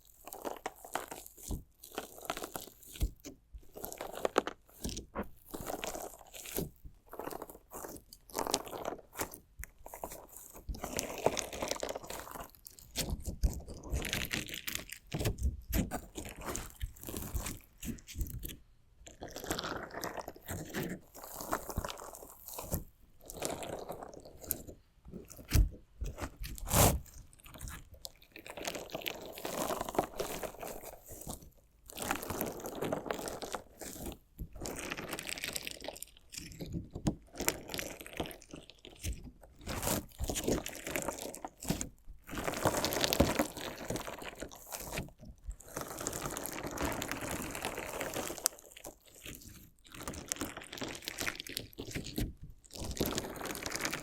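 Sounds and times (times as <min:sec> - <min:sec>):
crunchy slime crackling: 0:00.0 - 0:54.0.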